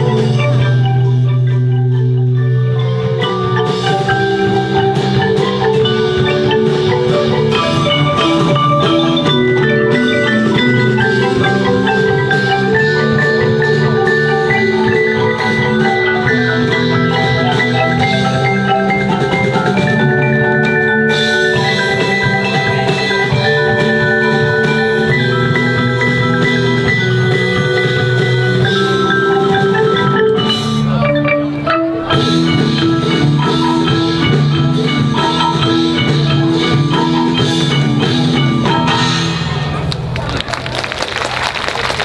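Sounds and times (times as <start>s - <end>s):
mallet percussion ensemble: 0.0s - 42.0s.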